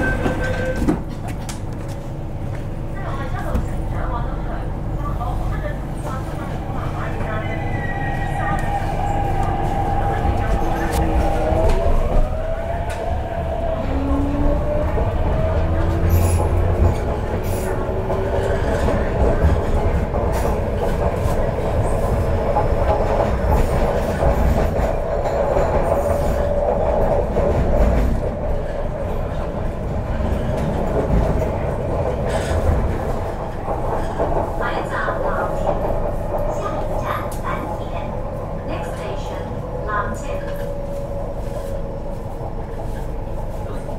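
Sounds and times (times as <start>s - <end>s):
rail and wheel noise: 0.0s - 43.9s.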